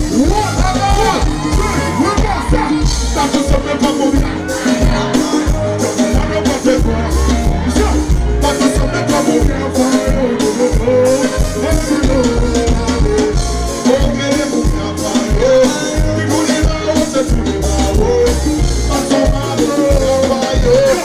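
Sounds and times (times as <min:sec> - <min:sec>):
live band music: 0:00.0 - 0:21.0
person singing: 0:00.0 - 0:21.0.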